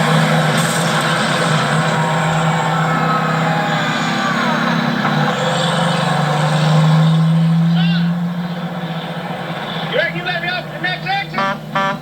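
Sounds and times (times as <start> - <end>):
vehicle engines droning at speed: 0.0 - 12.0.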